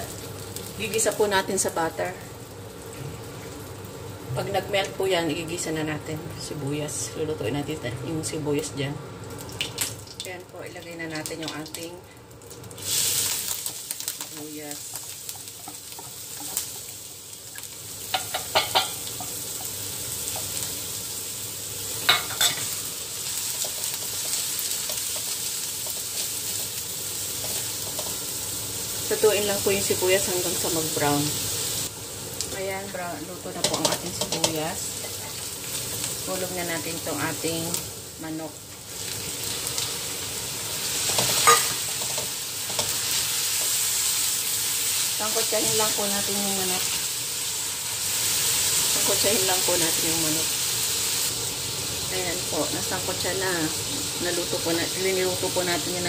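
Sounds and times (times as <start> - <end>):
onion sizzling in butter: 0.0 - 56.0.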